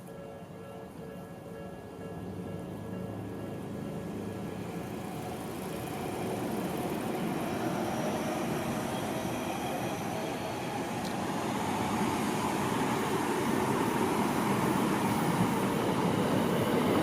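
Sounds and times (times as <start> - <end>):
train wheels rumbling on rails: 1.6 - 17.0.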